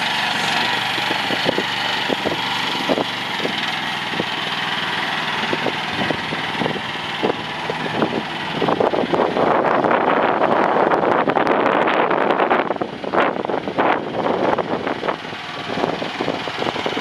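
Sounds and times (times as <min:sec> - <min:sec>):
excavator engine idling: 0:00.0 - 0:17.0.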